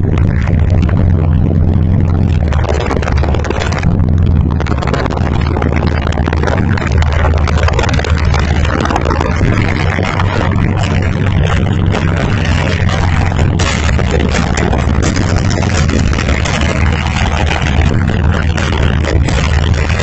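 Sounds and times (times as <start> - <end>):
loud distorted bass music: 0.0 - 20.0.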